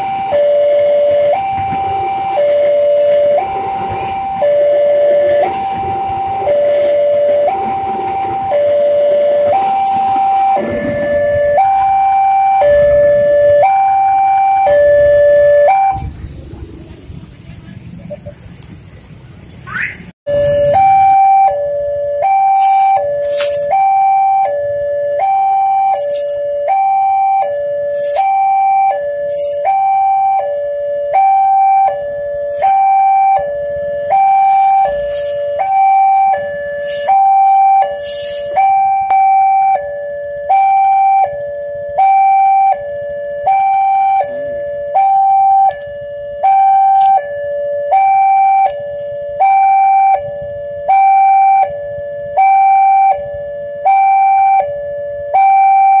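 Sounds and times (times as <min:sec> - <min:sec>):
two-tone level crossing alarm: 0:00.0 - 0:16.1, 0:20.3 - 0:56.0.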